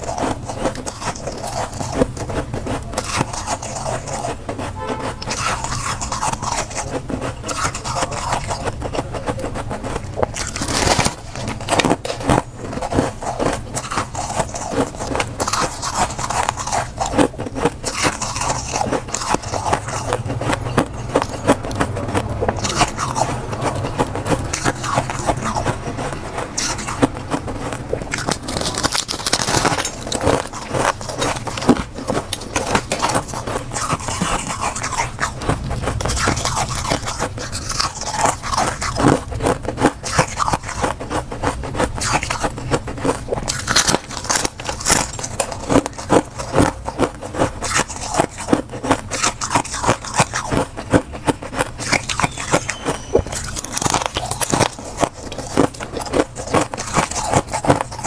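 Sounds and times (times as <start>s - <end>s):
frost crunching and crackling: 0.0s - 58.0s.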